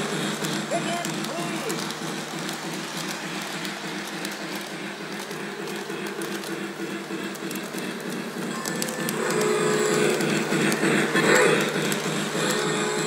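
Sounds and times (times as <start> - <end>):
toy train motor hum: 0.0 - 13.0
wheels rattling on rails: 0.0 - 13.0.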